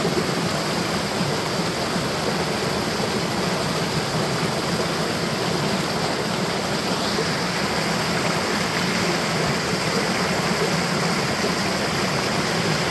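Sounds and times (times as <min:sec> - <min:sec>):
creek water rushing over boulders: 0:00.0 - 0:12.9.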